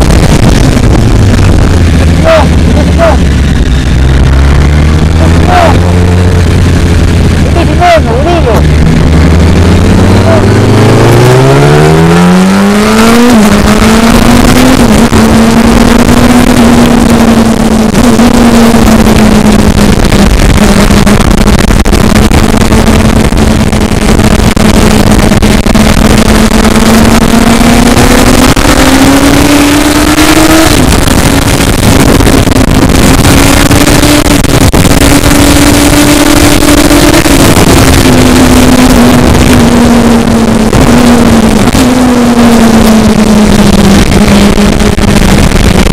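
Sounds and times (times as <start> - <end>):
vehicle engine revving high: 0.0 - 45.9
wind noise on microphone: 0.0 - 45.9.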